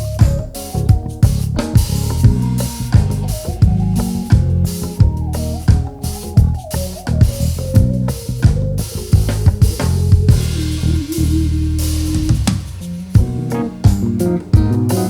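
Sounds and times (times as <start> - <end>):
bass line: 0.0 - 15.0
drum kit hits: 0.0 - 15.0
keyboard holding notes: 0.0 - 15.0.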